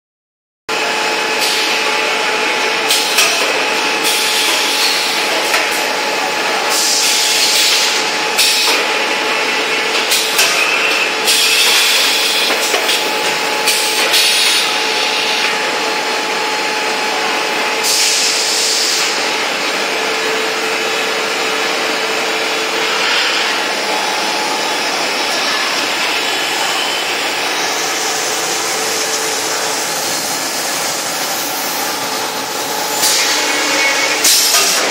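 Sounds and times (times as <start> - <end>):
packing machine running: 0.7 - 34.9.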